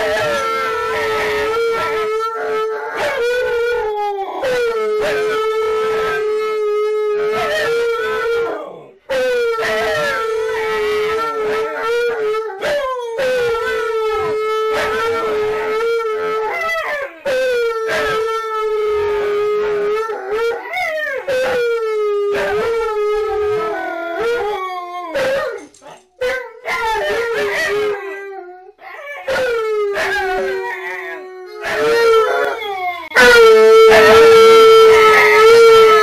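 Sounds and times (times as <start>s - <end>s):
dogs howling: 0.0s - 36.0s.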